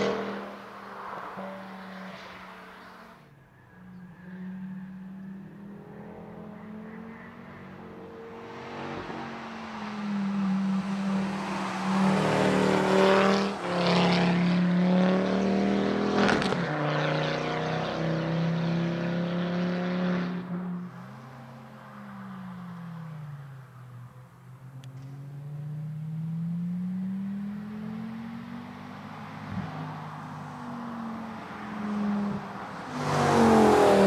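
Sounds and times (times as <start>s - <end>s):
car engine passing: 0.0s - 34.0s.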